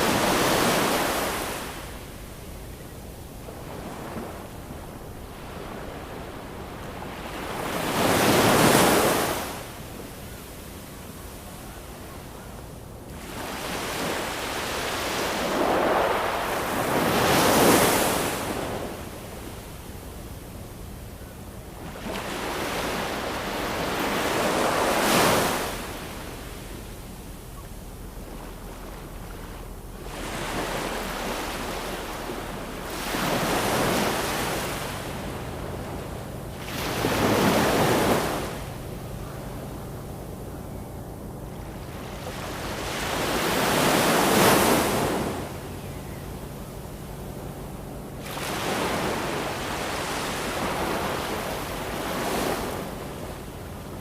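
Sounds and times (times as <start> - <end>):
ocean waves breaking on shore: 0.0 - 40.8, 41.4 - 54.0.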